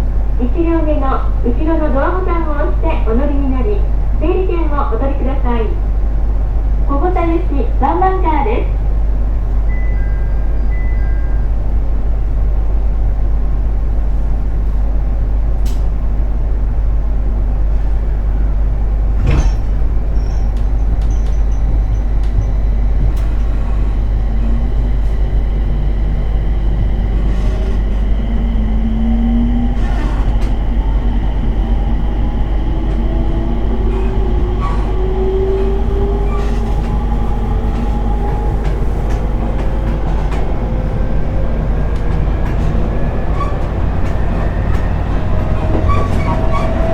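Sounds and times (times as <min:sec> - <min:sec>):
train interior rumble: 0:00.0 - 0:46.9.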